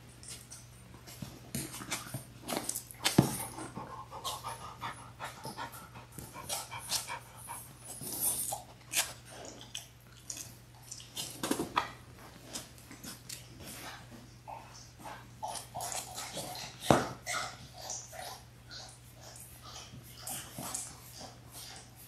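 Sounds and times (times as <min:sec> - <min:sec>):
dog panting and sniffing: 0:00.3 - 0:10.0, 0:12.2 - 0:22.0.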